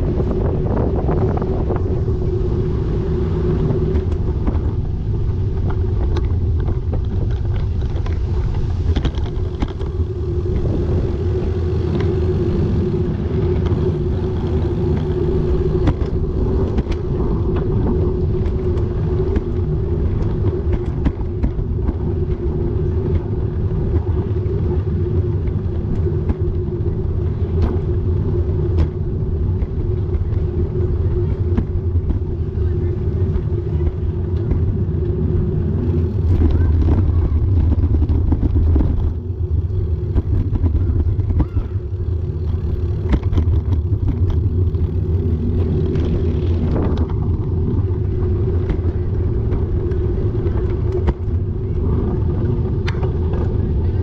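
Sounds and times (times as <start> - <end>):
bike riding along street: 0.0 - 54.0.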